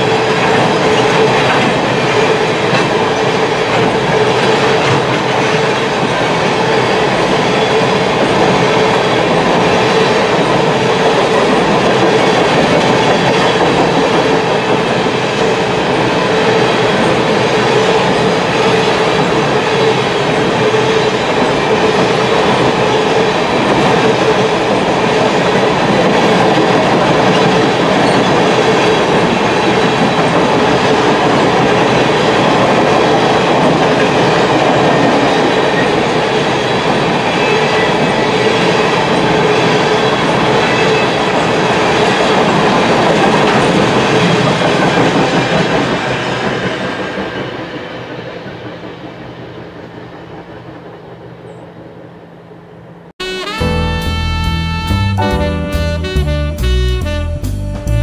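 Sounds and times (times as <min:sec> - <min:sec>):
freight train wheels clattering: 0:00.0 - 0:50.8.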